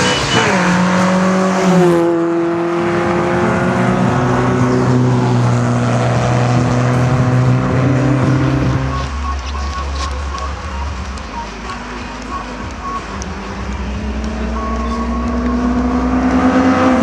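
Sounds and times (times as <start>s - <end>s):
cars racing: 0.0s - 17.0s.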